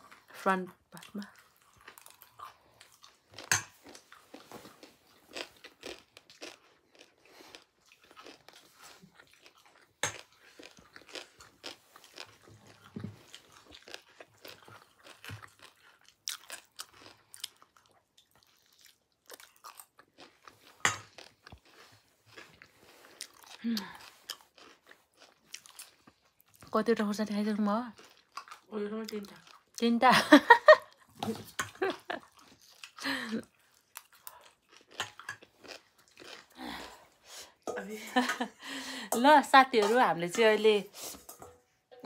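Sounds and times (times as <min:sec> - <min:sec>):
chewing crunchy snack: 0:00.0 - 0:26.8, 0:27.5 - 0:30.0, 0:30.7 - 0:37.6.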